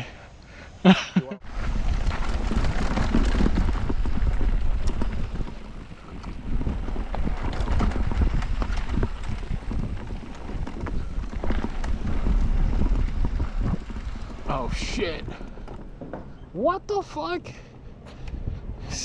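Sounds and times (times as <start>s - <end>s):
mountain bike rattling on trail: 1.4s - 17.3s
wind buffeting microphone: 1.4s - 19.0s.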